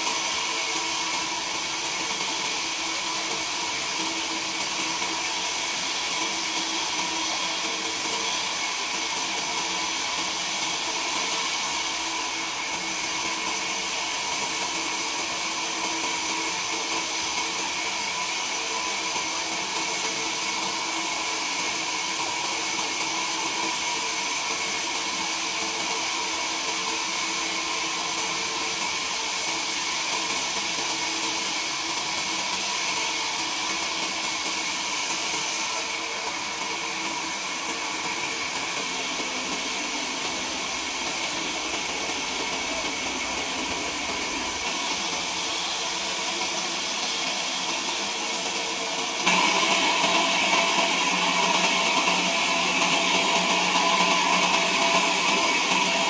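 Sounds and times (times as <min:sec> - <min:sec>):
machine whirring and hissing: 0:00.0 - 0:56.0.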